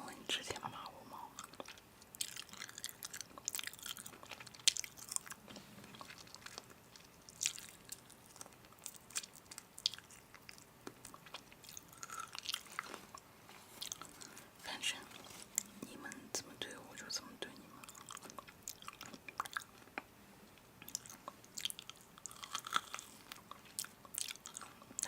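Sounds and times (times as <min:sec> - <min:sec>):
chewing crunchy food: 0:01.3 - 0:15.8, 0:17.8 - 0:25.0.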